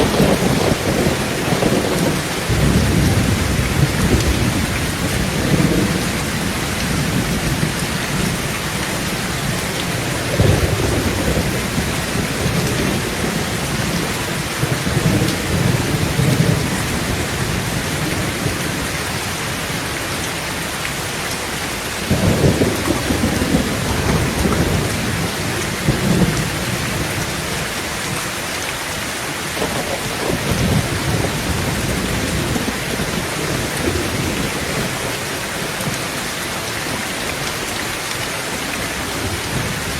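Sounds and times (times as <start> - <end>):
thunder rumbling: 0.0 - 19.3, 22.0 - 27.9, 29.6 - 36.7
heavy rain on a tin roof: 0.0 - 39.9.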